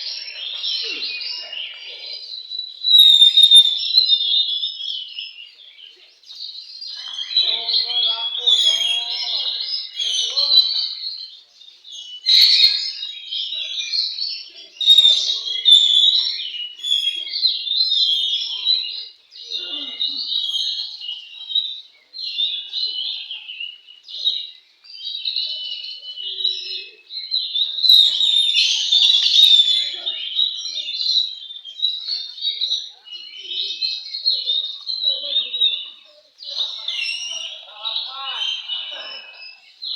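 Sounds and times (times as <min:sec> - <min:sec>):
birds singing rapid phrases: 0:00.0 - 0:39.9.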